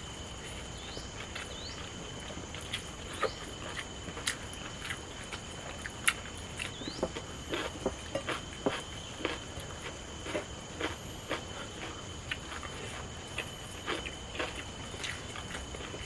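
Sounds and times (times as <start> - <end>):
crunchy chewing: 0.4 - 16.0.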